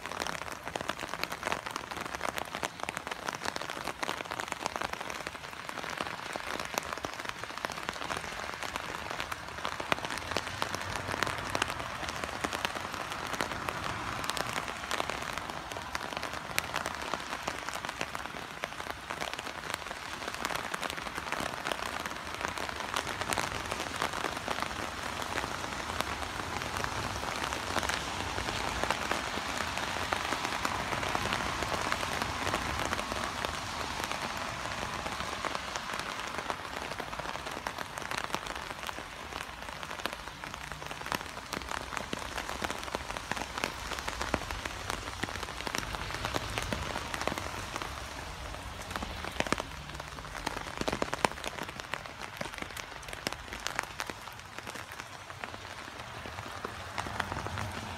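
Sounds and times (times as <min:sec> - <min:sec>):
rain falling: 0:00.0 - 0:57.9
raindrops hitting surfaces: 0:00.0 - 0:57.9.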